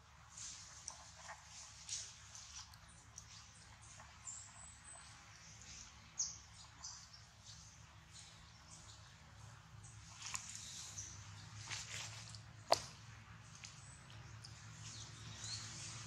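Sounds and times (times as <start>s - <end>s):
light ticks and rustles: 0.0s - 16.0s.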